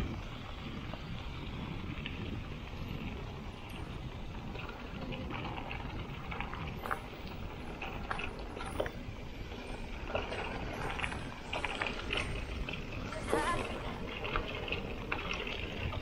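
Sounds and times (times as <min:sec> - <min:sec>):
bike rattles and clicks: 0:00.0 - 0:16.0
wind and tyre rumble: 0:00.0 - 0:16.0.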